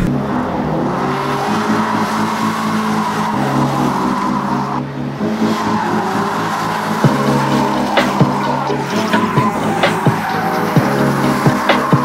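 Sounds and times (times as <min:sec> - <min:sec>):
car engine: 0:00.0 - 0:12.0
tyres squealing: 0:00.0 - 0:12.0.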